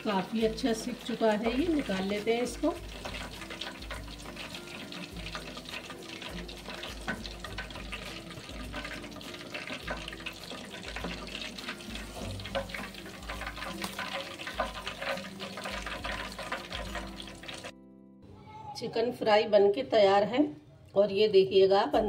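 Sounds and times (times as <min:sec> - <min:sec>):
hot oil sizzling and crackling: 0:00.0 - 0:17.8.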